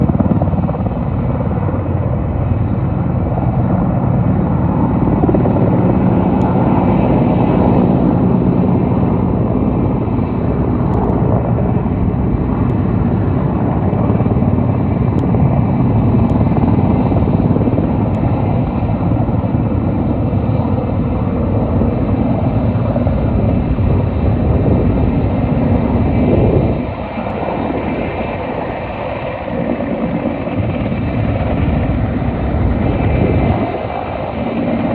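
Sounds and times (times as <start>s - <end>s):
helicopter rotor and engines: 0.0s - 34.9s
high engine whine: 0.0s - 34.9s.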